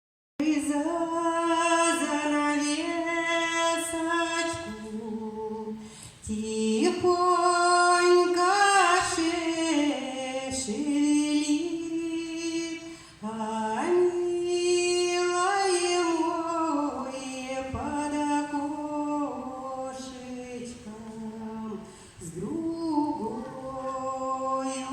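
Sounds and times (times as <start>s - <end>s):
woman singing slowly: 0.4s - 24.9s.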